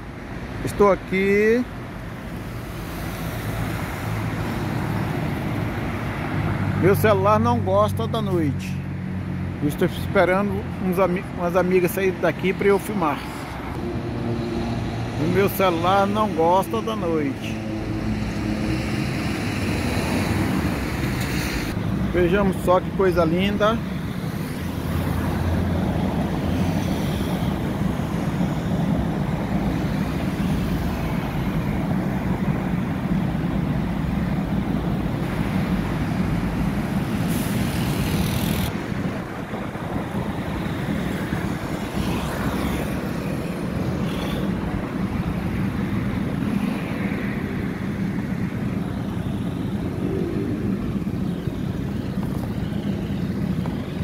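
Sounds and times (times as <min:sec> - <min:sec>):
car engines humming: 0:00.0 - 0:54.0.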